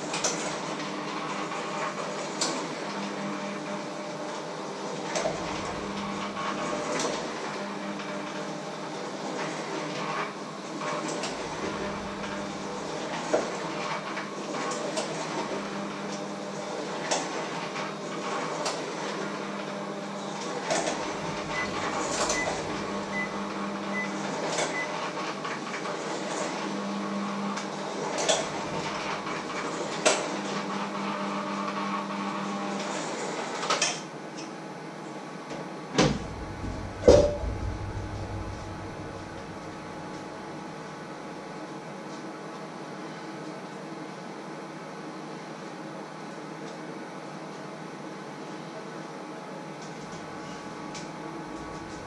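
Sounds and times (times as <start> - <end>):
steady appliance hum: 0.0 - 52.0.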